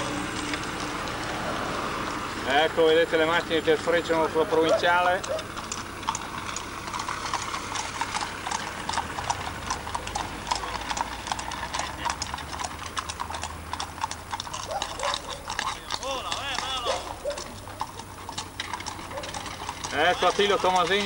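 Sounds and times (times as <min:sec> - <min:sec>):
horse hooves on asphalt: 0:00.0 - 0:21.0.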